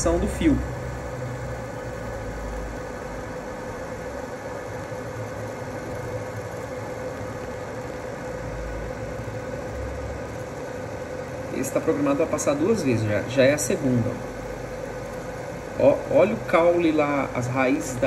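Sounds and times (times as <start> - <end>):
faint steady whine: 0.0 - 18.0
laser engraver humming and hissing: 0.0 - 18.0.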